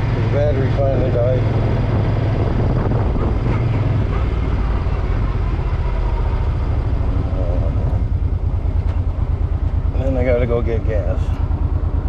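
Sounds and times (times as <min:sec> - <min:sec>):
motorcycle engine throbbing: 0:00.0 - 0:12.0.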